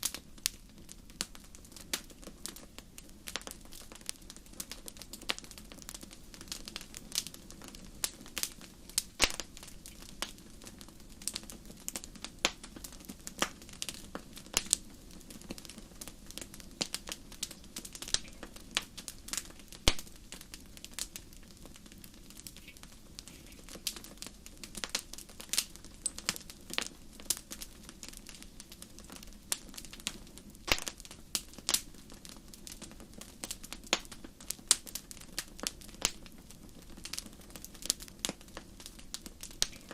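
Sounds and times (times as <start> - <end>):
wood fire snapping and popping: 0.0 - 39.9.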